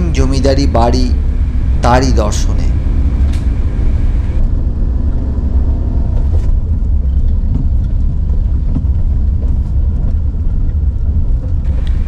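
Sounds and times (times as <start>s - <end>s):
car driving low rumble: 0.0s - 12.0s.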